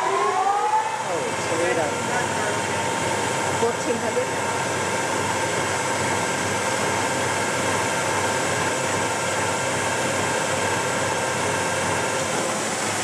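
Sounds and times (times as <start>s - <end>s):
lathe gear whine: 0.0s - 13.0s.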